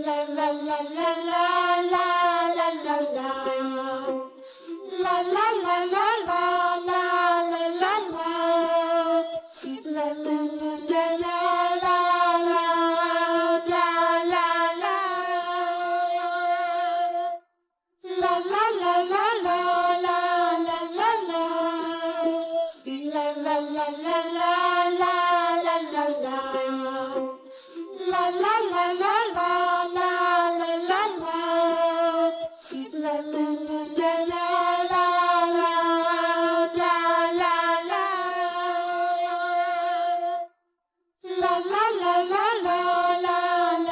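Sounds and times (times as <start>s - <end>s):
high voice singing wordless tune: 0.0s - 17.4s, 18.0s - 40.5s, 41.2s - 43.9s.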